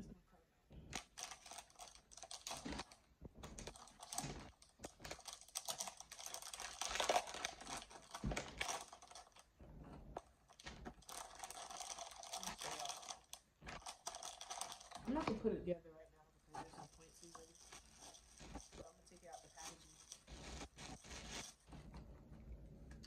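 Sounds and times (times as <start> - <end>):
plastic bag crinkling: 0.9 - 9.6, 10.2 - 15.5, 16.6 - 21.8.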